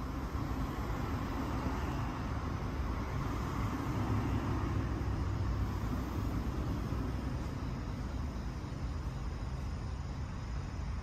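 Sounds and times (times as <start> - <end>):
faint hiss: 0.0 - 11.0
low rumbling background noise: 0.0 - 11.0.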